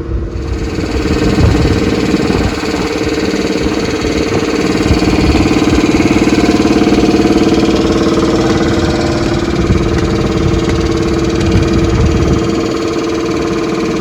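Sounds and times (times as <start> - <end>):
machine engine hum: 0.0 - 14.0.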